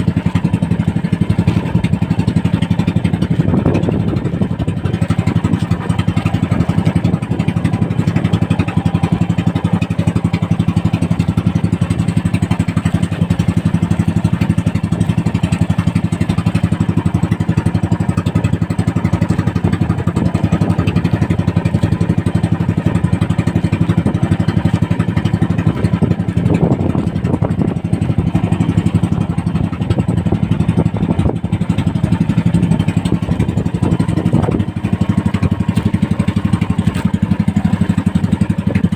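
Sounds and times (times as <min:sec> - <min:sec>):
boat engine running steadily: 0:00.0 - 0:38.9.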